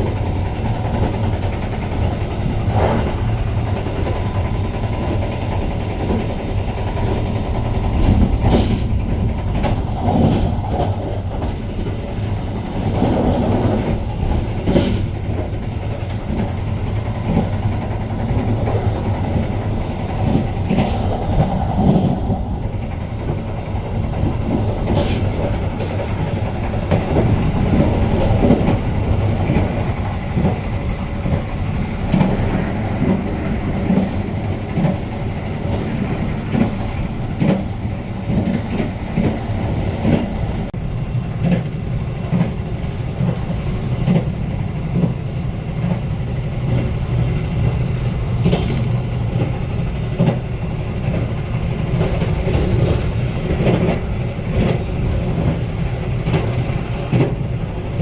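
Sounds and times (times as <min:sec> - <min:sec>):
train rumbling on track: 0:00.0 - 0:58.0
wheels clicking over rails: 0:00.0 - 0:58.0.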